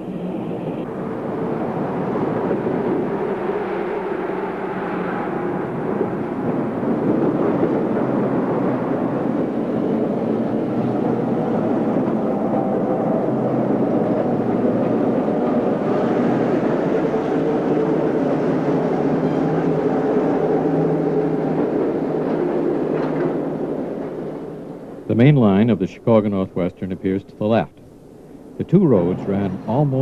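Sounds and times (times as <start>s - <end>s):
electric rail car running: 0.0s - 27.5s, 28.1s - 30.0s.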